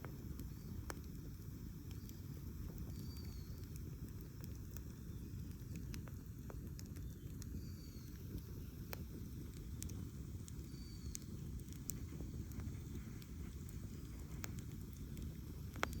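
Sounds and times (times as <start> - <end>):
fire low rumble: 0.0 - 16.0
wood crackling and popping: 0.0 - 16.0.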